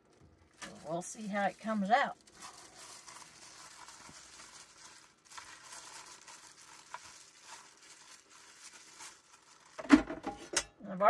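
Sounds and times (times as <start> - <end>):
gloved hand rustling fish: 0.0 - 9.8.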